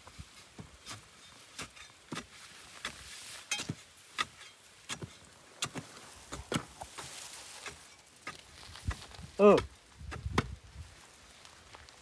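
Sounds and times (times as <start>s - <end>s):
hand tool chopping ground: 0.5s - 10.6s.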